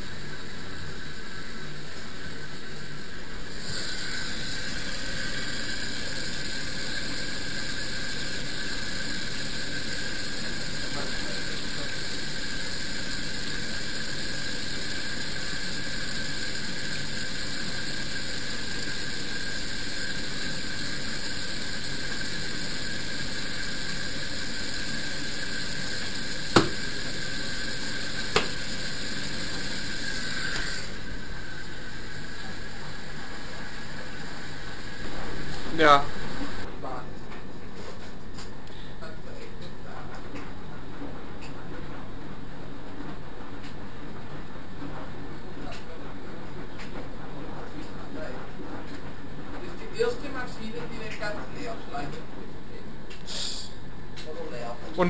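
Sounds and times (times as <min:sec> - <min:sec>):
low mechanical noise: 0:00.0 - 0:55.0
washing machine whine: 0:00.0 - 0:55.0.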